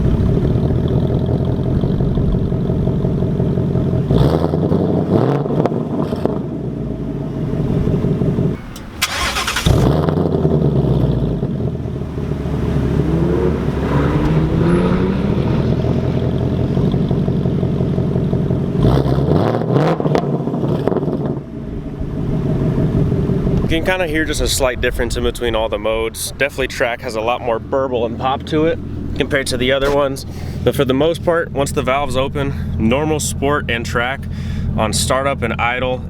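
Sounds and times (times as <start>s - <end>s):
car engine idling and revving: 0.0s - 36.0s
car engine starting with a flare: 0.0s - 36.0s.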